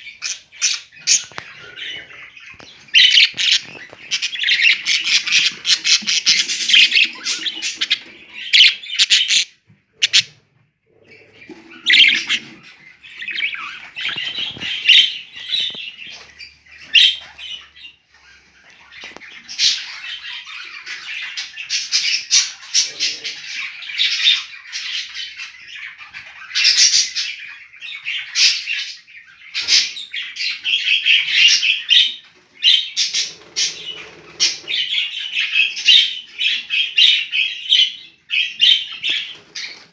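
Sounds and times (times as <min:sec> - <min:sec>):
birds squawking and chirping: 0:00.0 - 0:39.9.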